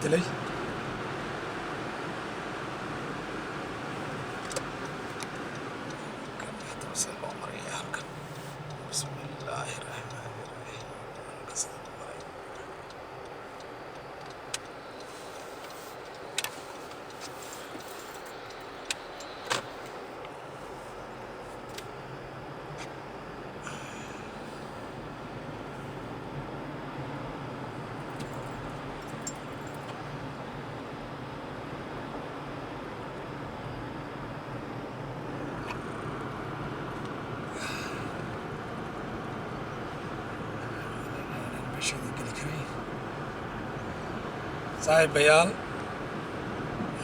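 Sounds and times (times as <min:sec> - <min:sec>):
car road noise inside cabin: 0:00.0 - 0:47.0.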